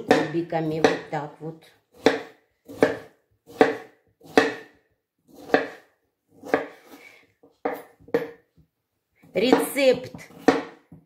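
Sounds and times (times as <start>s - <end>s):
knife chopping on cutting board: 0.0s - 1.2s, 1.9s - 7.0s, 7.6s - 8.5s, 9.2s - 11.0s.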